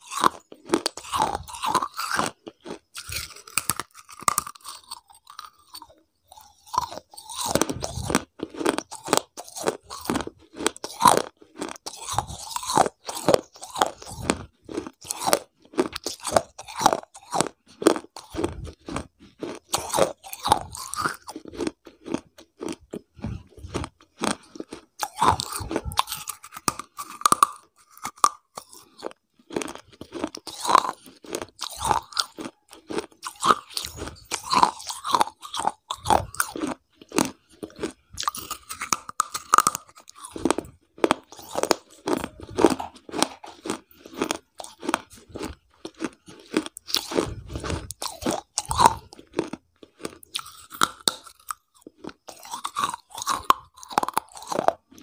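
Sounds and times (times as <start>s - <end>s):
person chewing crunchy food: 0.0s - 55.0s.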